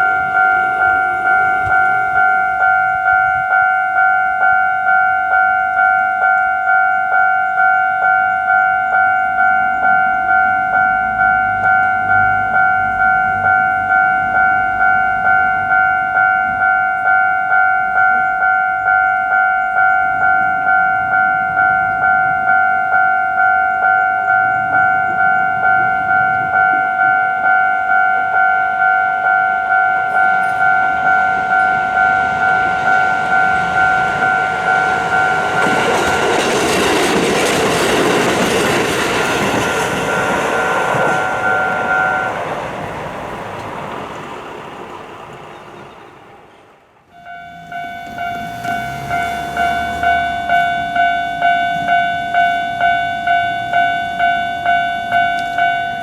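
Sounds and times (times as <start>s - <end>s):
level crossing bell ringing: 0.0s - 42.9s, 47.2s - 56.0s
approaching train: 0.0s - 56.0s.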